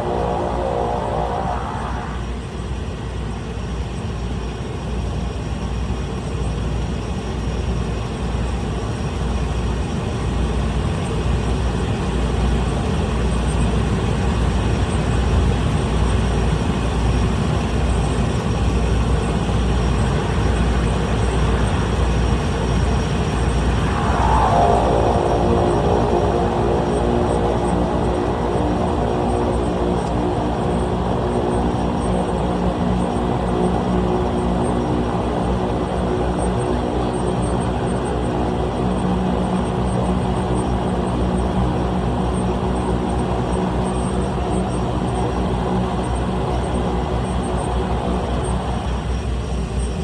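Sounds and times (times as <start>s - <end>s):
small plane engine drone: 0.0s - 50.0s.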